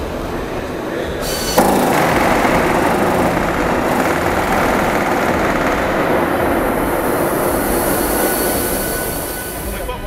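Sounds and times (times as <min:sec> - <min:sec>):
loud steady mechanical noise: 0:00.0 - 0:10.0.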